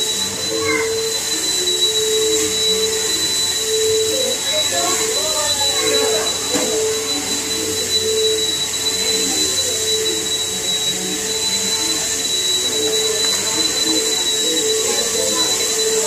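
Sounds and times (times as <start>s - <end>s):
whirring motor with high whine: 0.0s - 16.0s.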